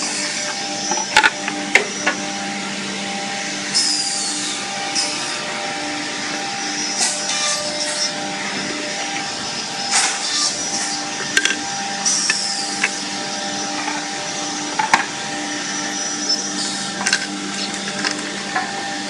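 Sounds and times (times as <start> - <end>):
drilling machine humming: 0.0 - 19.0.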